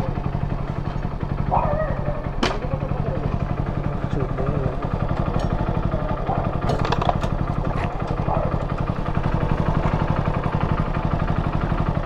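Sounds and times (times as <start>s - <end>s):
small motorcycle engine idling: 0.0s - 12.0s.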